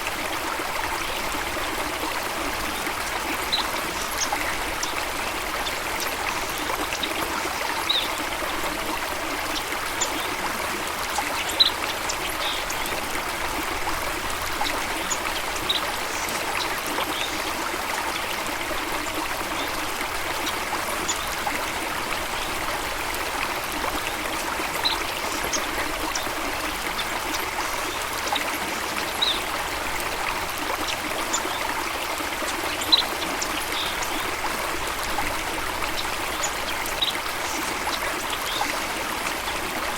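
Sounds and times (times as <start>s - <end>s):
stream splashing and trickling: 0.0s - 39.9s.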